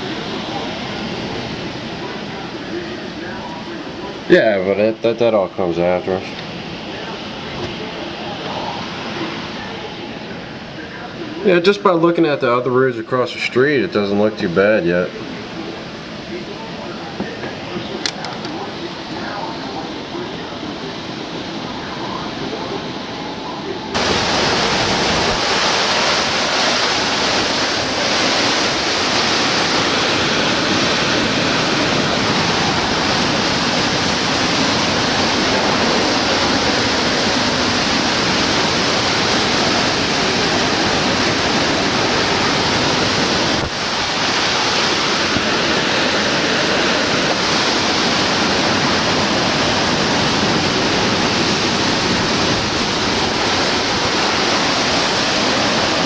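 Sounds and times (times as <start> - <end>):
hurricane wind and rain: 0.0 - 56.0.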